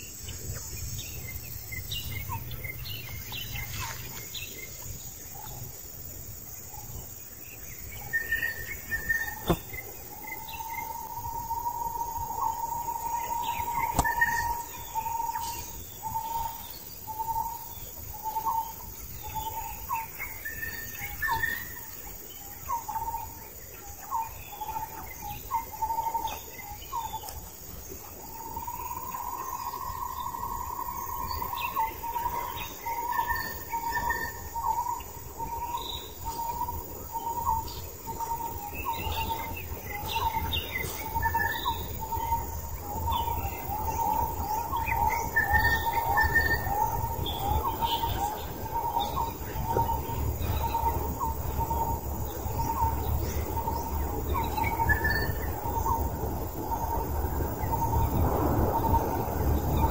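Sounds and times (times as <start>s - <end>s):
birds calling: 0.0s - 59.9s
forest insects: 0.0s - 59.9s.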